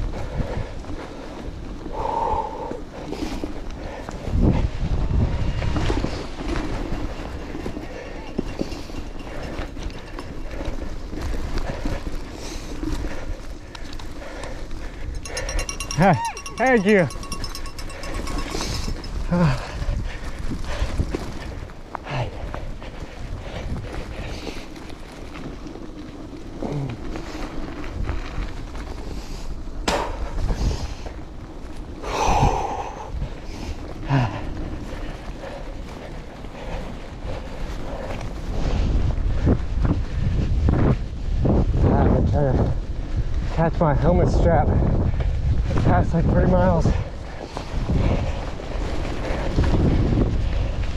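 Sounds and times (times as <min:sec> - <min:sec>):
wind on microphone: 0:00.0 - 0:13.7, 0:14.6 - 0:24.7, 0:26.6 - 0:50.9
bicycle tyres crunching on gravel: 0:00.0 - 0:50.9
bike rattling: 0:00.0 - 0:50.9.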